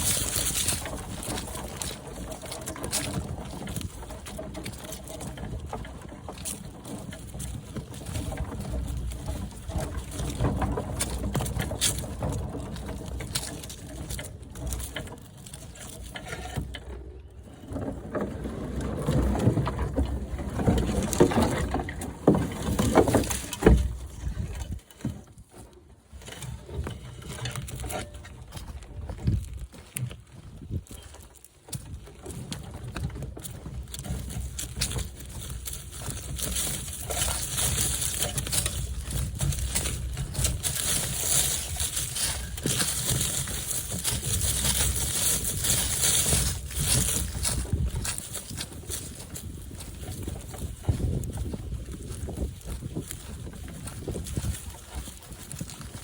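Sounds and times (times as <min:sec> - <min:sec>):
wheelbarrow rumbling and rattling: 0:00.0 - 0:56.0.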